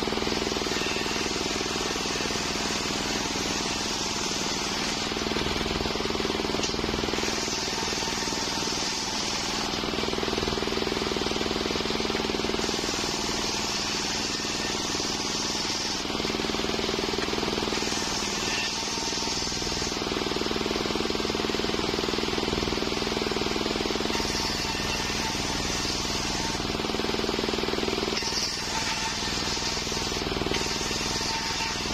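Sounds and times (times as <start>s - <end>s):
saw blade whining through wood: 0.0s - 31.9s
sawmill running: 0.0s - 31.9s.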